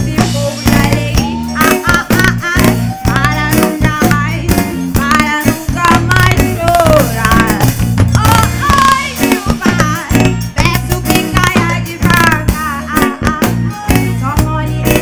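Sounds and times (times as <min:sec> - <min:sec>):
live band playing: 0:00.0 - 0:15.0
woman singing into microphone: 0:00.0 - 0:15.0.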